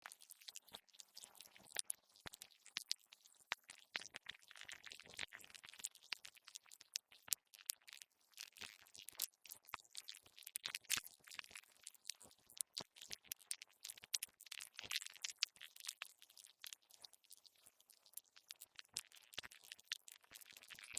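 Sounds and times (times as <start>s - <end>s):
crackle of small clicks: 0.0s - 20.9s.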